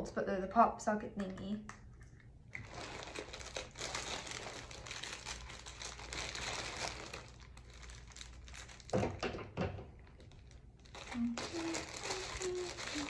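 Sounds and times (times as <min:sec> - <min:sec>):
plastic packaging crinkling: 0:02.5 - 0:13.0.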